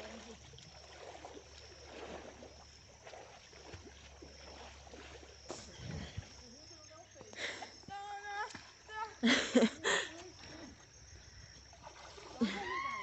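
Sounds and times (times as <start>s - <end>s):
faint river water lapping: 0.0s - 13.0s.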